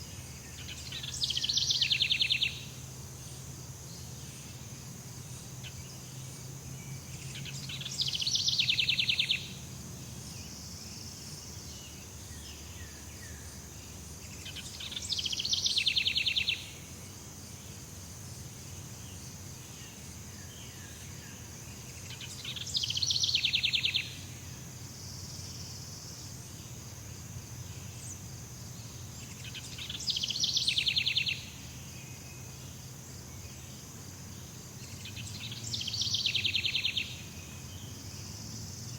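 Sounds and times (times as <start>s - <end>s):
high insect drone: 0.0s - 38.9s
rapid pulsing insect trill: 0.0s - 38.9s.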